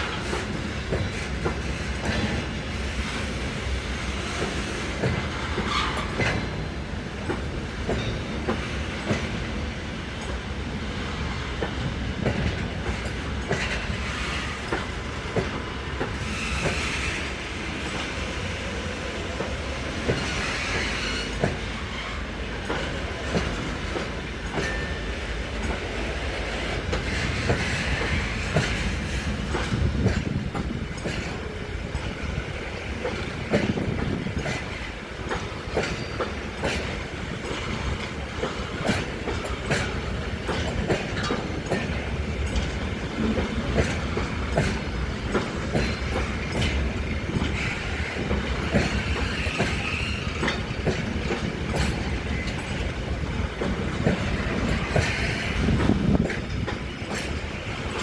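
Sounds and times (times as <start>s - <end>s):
train wheels clattering over rail joints: 0.0s - 58.0s.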